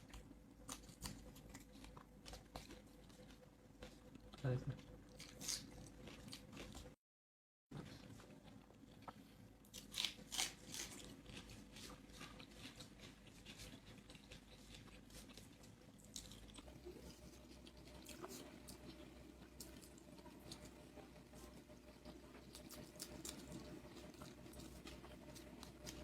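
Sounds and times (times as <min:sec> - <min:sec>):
chewing and crunching food: 0:00.0 - 0:07.0, 0:07.7 - 0:26.0.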